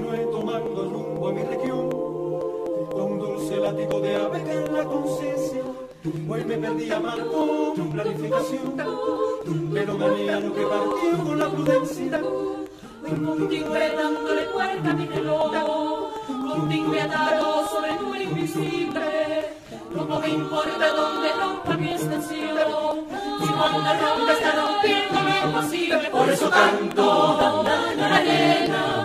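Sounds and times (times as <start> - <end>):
a cappella choir singing: 0.0 - 29.0.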